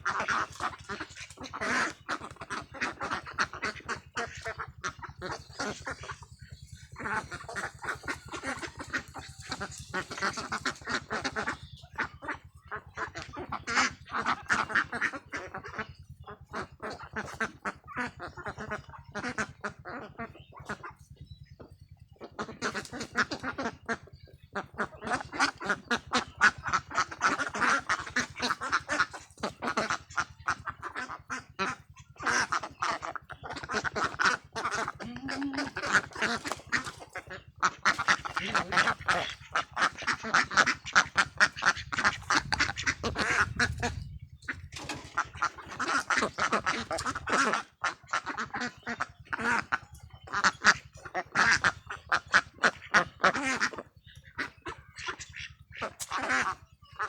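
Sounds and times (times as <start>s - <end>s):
flock of ducks quacking: 0.0s - 57.0s.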